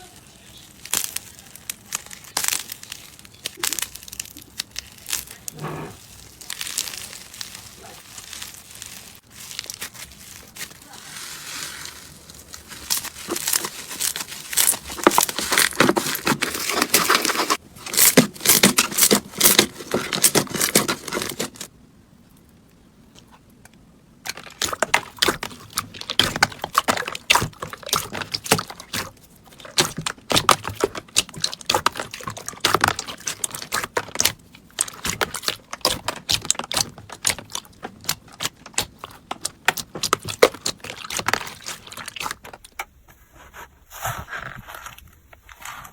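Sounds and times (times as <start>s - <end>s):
slime crackling and popping: 0.0s - 21.7s, 24.2s - 42.9s.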